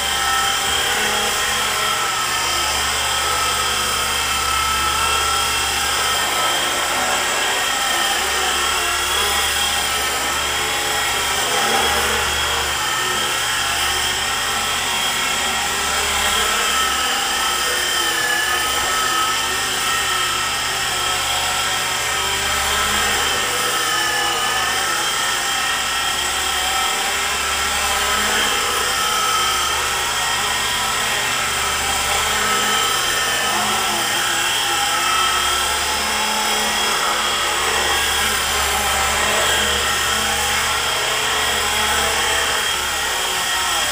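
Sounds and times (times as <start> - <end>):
model helicopter motor whine: 0.0 - 43.9.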